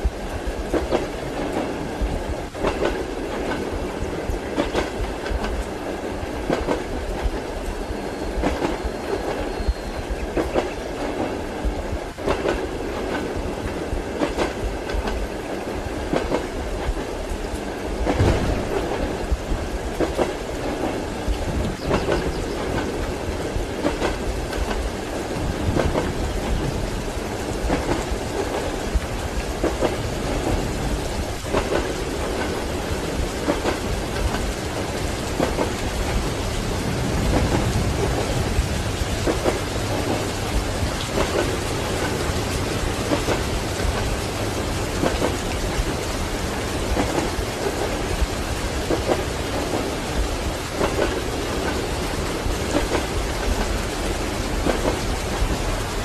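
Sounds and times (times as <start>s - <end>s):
train carriage low rumble: 0.0s - 56.0s
train wheels clacking over rail joints: 0.1s - 7.5s, 8.4s - 15.3s, 16.0s - 56.0s.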